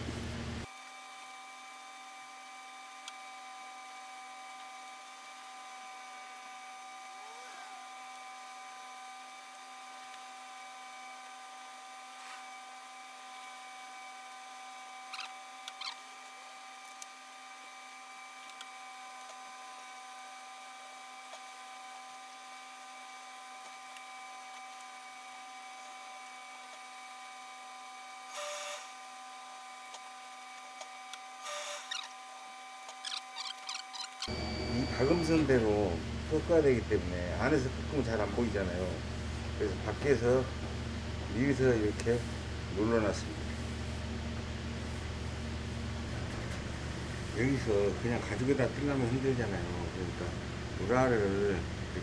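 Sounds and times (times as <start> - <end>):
steady high-toned hum: 0.0 - 52.0.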